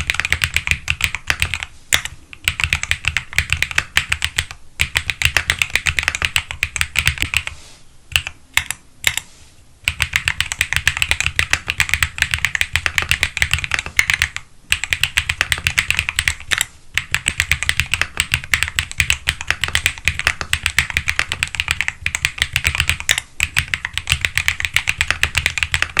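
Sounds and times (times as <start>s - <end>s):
mechanical keyboard typing: 0.0s - 26.0s.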